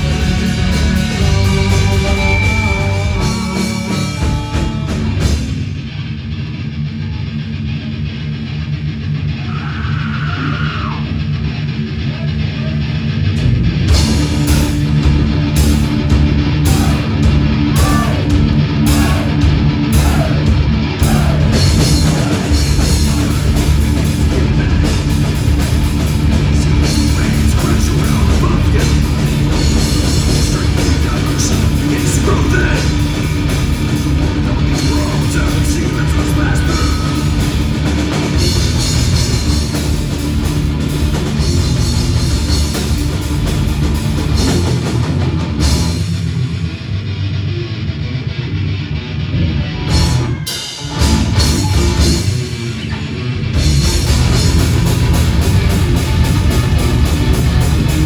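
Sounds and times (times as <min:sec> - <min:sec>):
live rock band playing: 0:00.0 - 0:09.5, 0:11.0 - 0:58.0.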